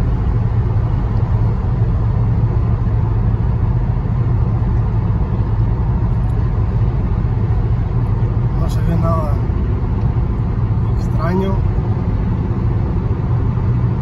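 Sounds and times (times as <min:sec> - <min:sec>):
car engine and road noise drone: 0:00.0 - 0:14.0.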